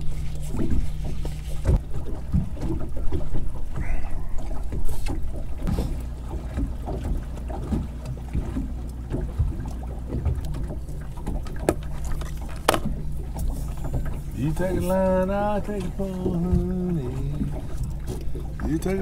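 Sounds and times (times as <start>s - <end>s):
outboard motor humming: 0.0s - 19.0s
water splashing against hull: 0.0s - 19.0s.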